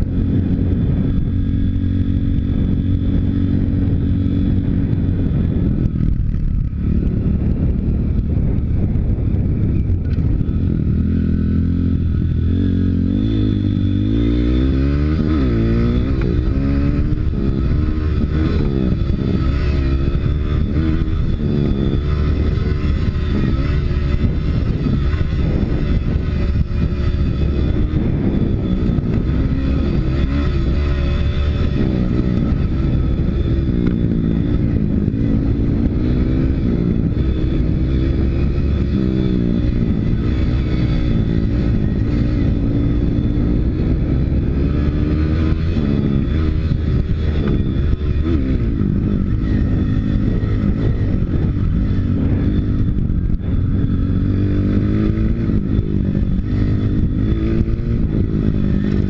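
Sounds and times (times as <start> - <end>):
pit bike engine revving: 0.0 - 59.0.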